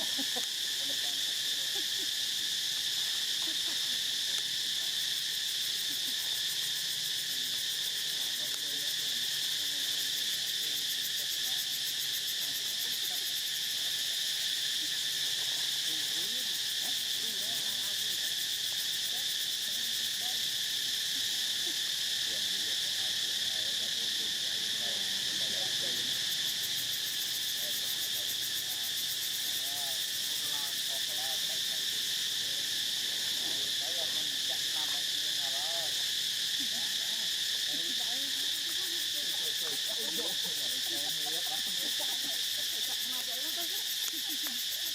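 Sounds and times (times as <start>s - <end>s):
insects buzzing: 0.0s - 44.9s.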